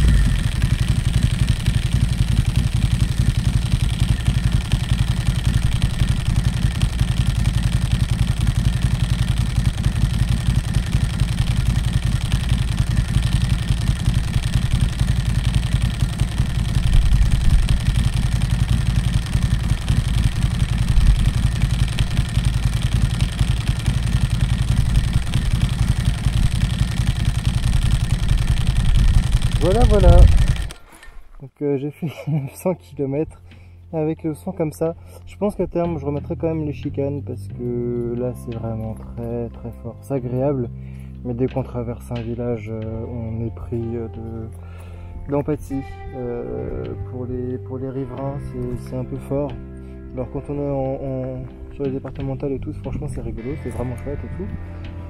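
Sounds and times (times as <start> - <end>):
motorcycle engine idling: 0.0 - 31.4, 40.2 - 55.0.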